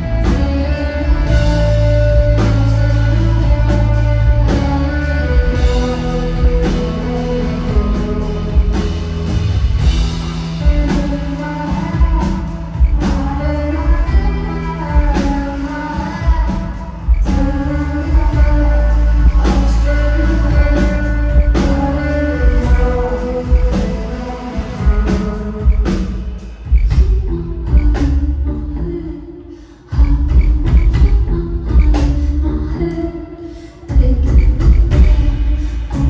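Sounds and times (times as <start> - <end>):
bass guitar: 0.0 - 29.1, 33.9 - 36.0
drums: 0.0 - 36.0.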